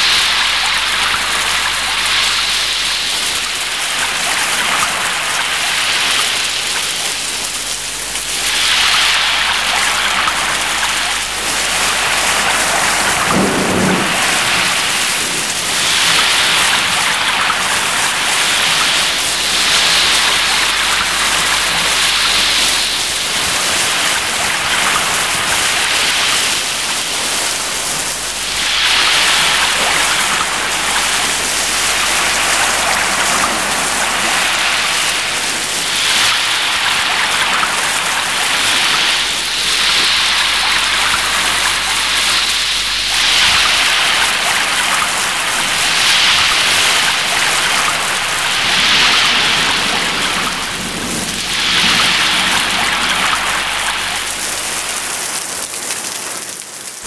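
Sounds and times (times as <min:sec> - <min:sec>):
heavy rain on roofs and street: 0:00.0 - 0:57.0.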